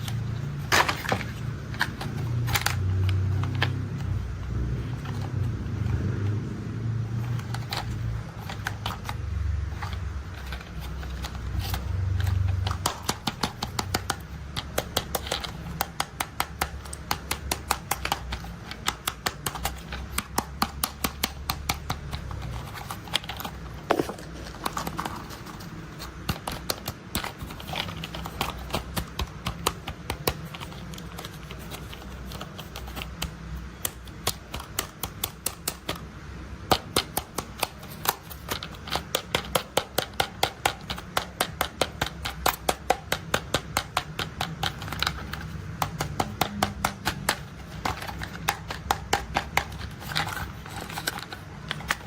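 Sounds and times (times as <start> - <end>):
toy vehicles clicking and tapping: 7.2 - 52.0.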